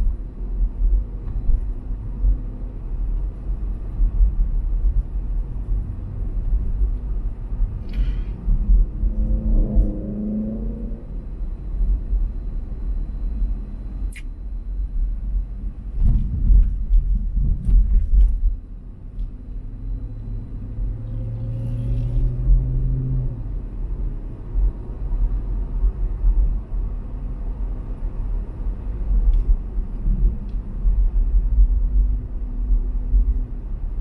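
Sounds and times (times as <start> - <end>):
car tyres and engine rumble: 0.0 - 34.0.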